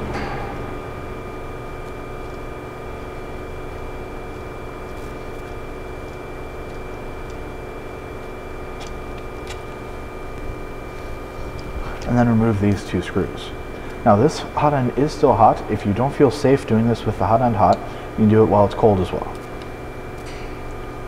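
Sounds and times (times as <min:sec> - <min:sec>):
printer humming: 0:00.0 - 0:21.0.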